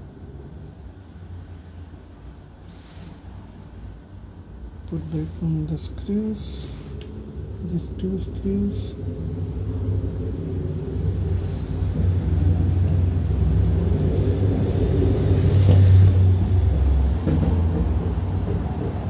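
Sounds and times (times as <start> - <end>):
low rumble: 3.4 - 19.0.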